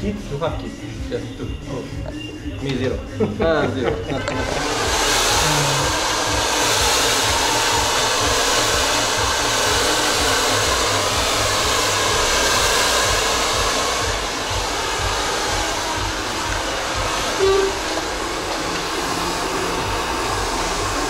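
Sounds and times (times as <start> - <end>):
hair dryer blowing air: 2.6 - 21.0.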